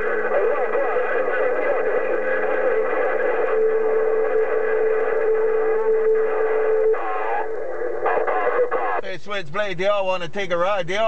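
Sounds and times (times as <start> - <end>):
steady radio whistle: 0.0 - 9.1.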